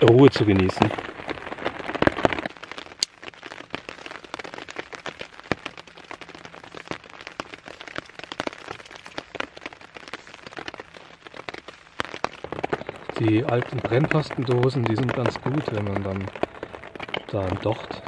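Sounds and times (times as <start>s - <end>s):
rain ticking on a tarp: 0.0s - 18.0s.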